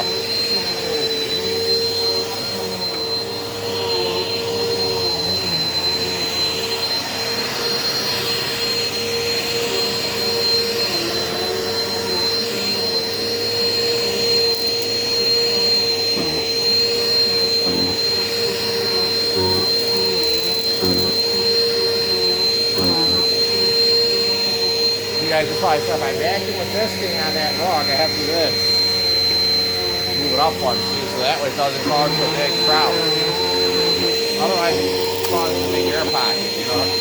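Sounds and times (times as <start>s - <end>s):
upright vacuum cleaner running: 0.0s - 37.0s.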